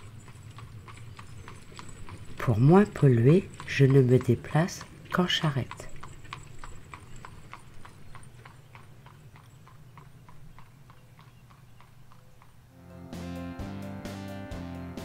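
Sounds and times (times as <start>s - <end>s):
hooves clip-clopping on paved road: 0.0s - 12.7s.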